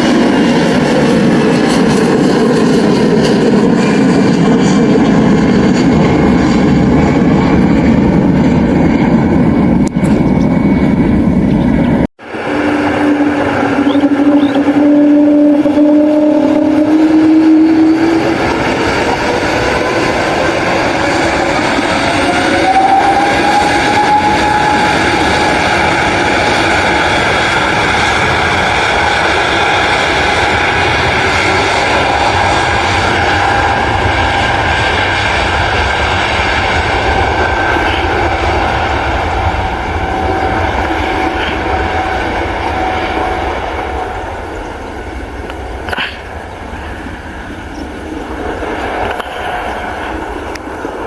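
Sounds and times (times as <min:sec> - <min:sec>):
airliner engines roaring: 0:00.0 - 0:51.0
jet engine whine: 0:00.0 - 0:51.0.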